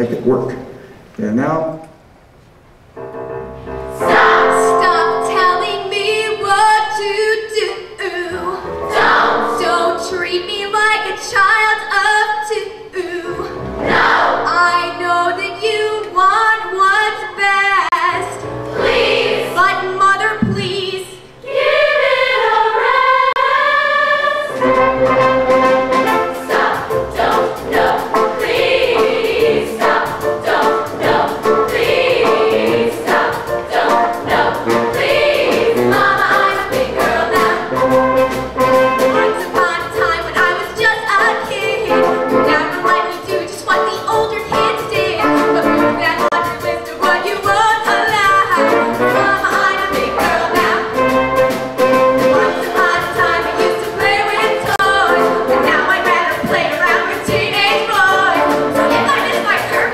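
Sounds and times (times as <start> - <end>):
choir singing: 4.0 - 11.6, 12.9 - 17.6, 18.7 - 20.2, 20.8 - 59.9.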